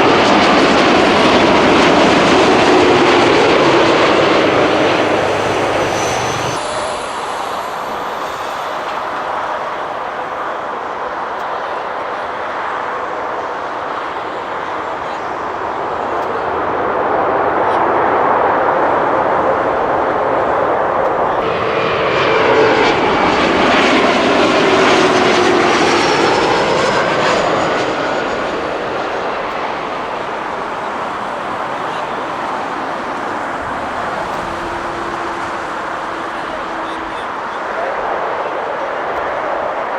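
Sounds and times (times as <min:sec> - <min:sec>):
jet airliner flying past: 0:00.0 - 0:39.9.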